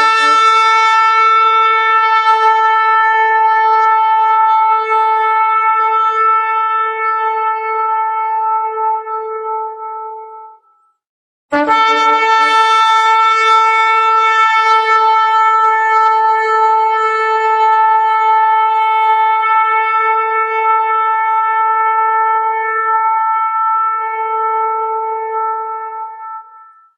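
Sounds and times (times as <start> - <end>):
shofar long held note: 0.0 - 10.8, 11.5 - 26.9.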